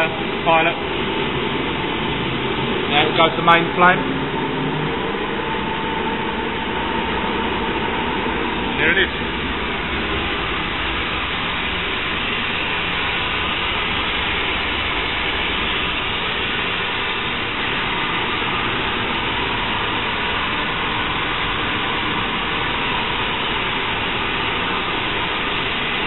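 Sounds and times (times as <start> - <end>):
gas burner steady rushing: 0.0 - 26.0.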